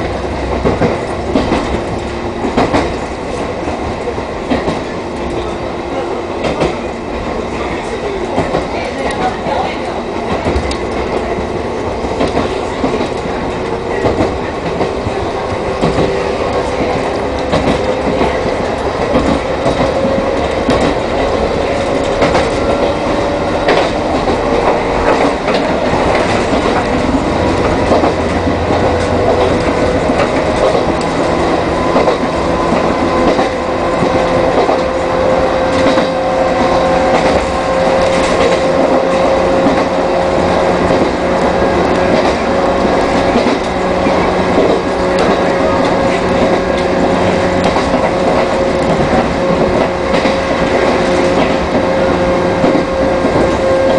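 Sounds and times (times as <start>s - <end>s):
wheels clicking over rail joints: 0.0s - 5.6s, 6.4s - 53.9s
running gear rumble: 8.4s - 53.9s
train motor whine: 10.4s - 53.9s.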